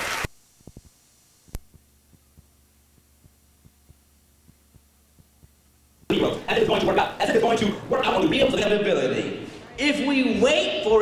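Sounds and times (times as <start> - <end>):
faint low hum: 0.3 - 11.0.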